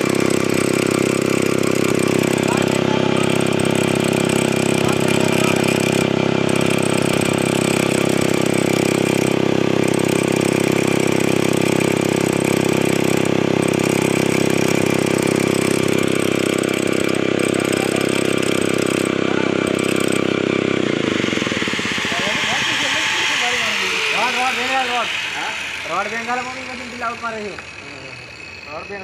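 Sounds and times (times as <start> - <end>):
lathe motor droning: 0.0 - 29.0.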